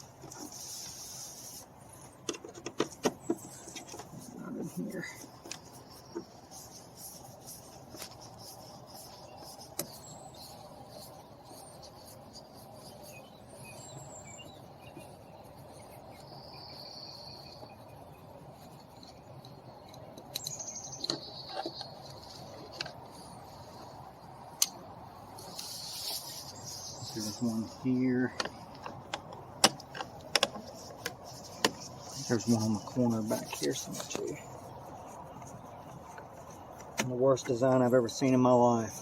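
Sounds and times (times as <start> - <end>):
insects: 0.0 - 39.0.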